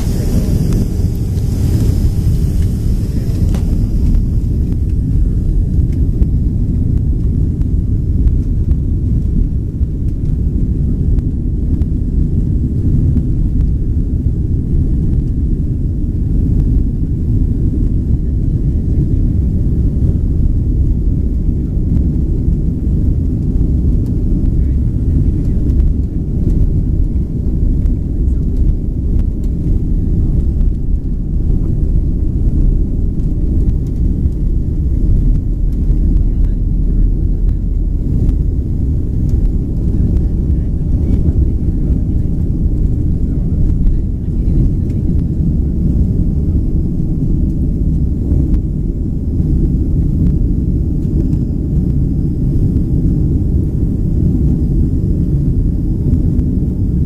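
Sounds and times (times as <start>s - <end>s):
airplane cabin takeoff rumble: 0.0s - 57.0s.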